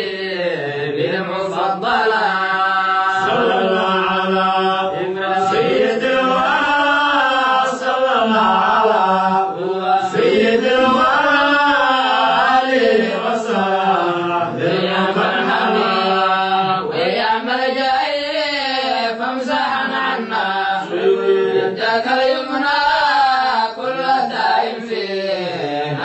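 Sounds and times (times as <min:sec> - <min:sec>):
person chanting devotional poem: 0:00.0 - 0:26.0.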